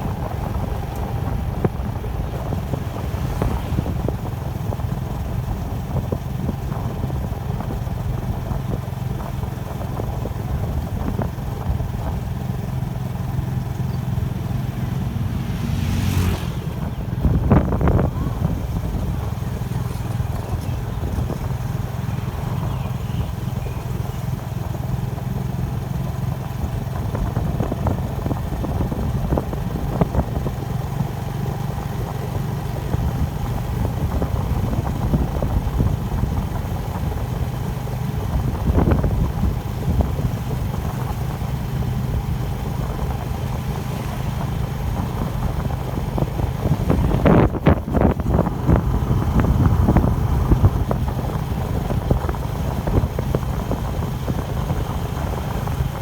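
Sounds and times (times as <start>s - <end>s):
wind on microphone: 0.0s - 25.1s, 32.0s - 56.0s
bike ride rumble: 0.0s - 56.0s.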